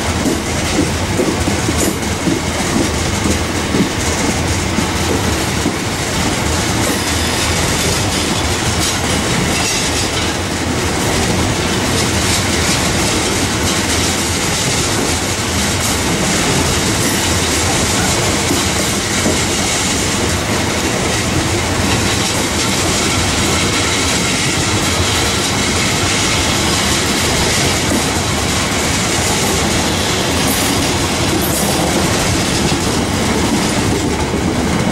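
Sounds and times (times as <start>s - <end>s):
train wheels on rails: 0.0s - 34.9s.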